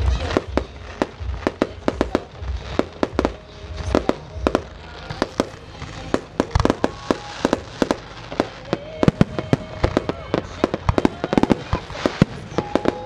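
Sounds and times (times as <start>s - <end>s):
faint music: 0.0s - 13.0s
fireworks crackling and banging: 0.0s - 13.0s.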